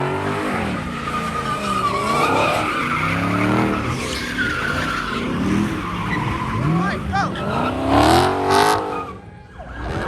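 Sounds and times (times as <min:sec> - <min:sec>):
car engine revving: 0:00.0 - 0:10.0
tires squealing: 0:00.0 - 0:10.0.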